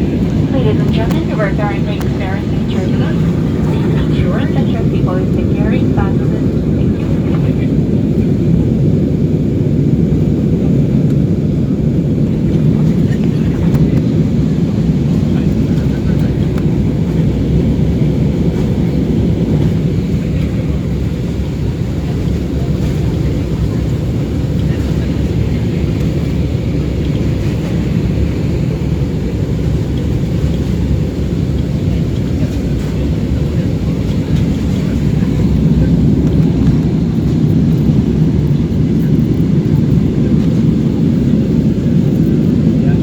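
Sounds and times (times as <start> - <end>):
jet airliner cabin rumble: 0.0 - 43.0.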